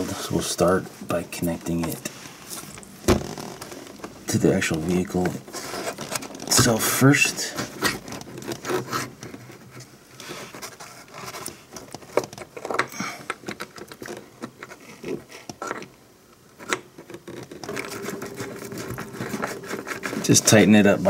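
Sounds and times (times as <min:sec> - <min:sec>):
metal and plastic knocks and scrapes: 0:01.6 - 0:15.9, 0:16.6 - 0:21.0.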